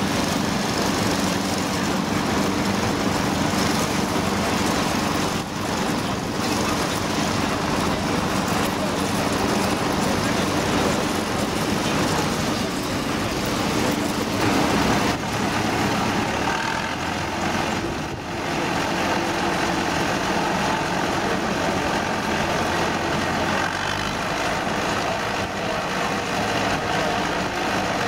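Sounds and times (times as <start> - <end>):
combine harvester drone: 0.0 - 28.0.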